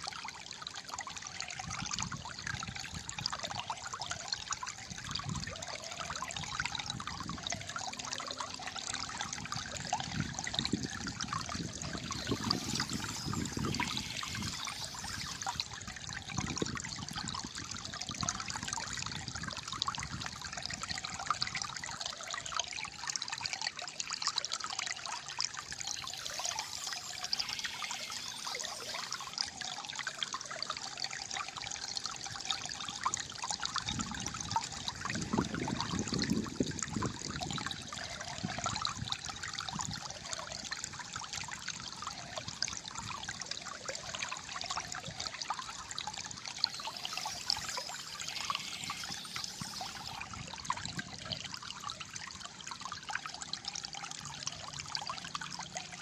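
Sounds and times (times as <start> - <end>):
deep water gurgle: 0.0 - 56.0
water trickling and gurgling: 0.0 - 56.0.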